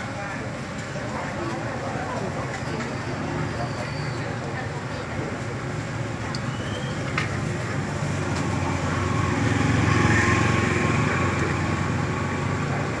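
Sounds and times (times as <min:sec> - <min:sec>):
traffic motor hum: 0:00.4 - 0:13.0.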